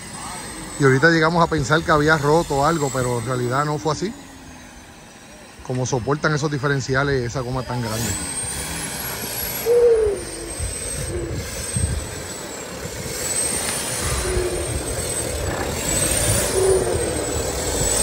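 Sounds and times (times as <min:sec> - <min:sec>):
off-road vehicle engine rumbling: 0:00.0 - 0:18.0
thin high whine: 0:00.0 - 0:18.0.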